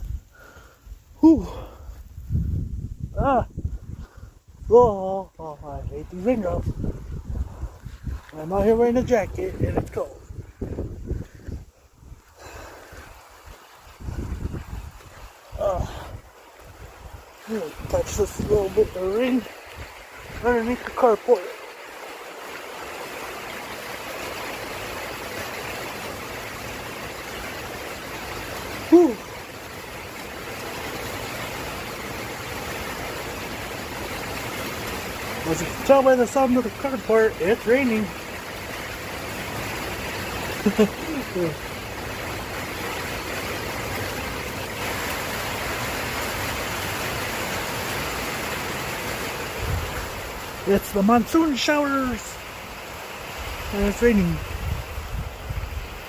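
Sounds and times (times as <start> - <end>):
heavy rain drumming on a roof: 8.0 - 56.0.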